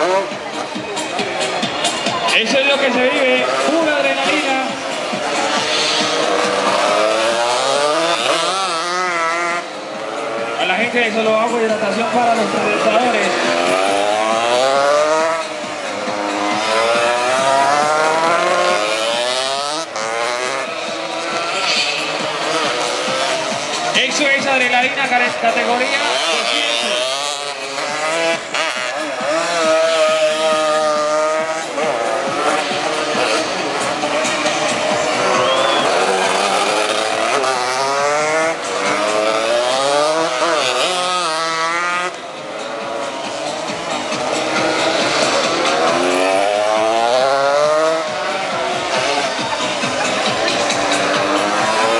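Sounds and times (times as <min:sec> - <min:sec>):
racing motorcycles accelerating: 0:00.0 - 0:51.9.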